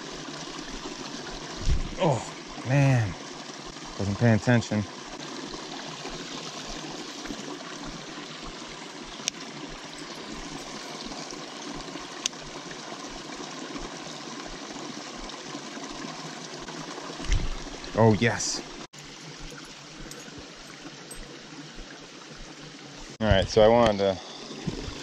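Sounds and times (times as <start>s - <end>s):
brook water flowing: 0.0s - 25.0s.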